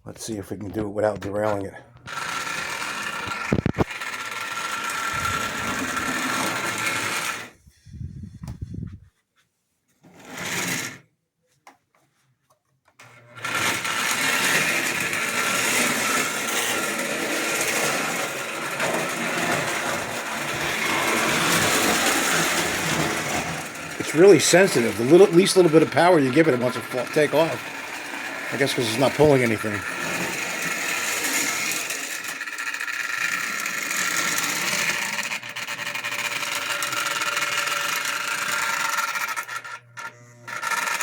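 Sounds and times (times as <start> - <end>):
toy train motor whirring: 2.0 - 7.7, 10.1 - 11.0, 13.0 - 41.0
gears and wheels clattering: 2.1 - 7.5, 13.4 - 41.0.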